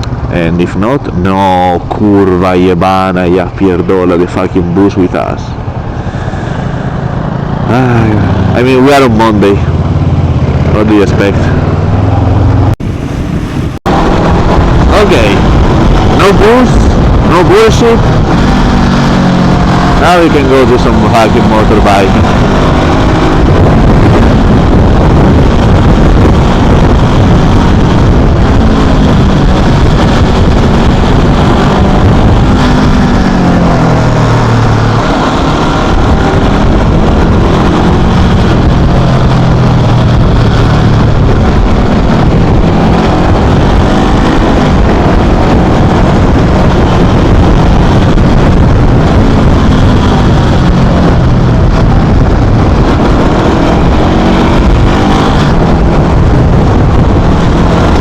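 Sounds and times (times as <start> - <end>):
motorcycle engine revving: 5.4 - 58.0.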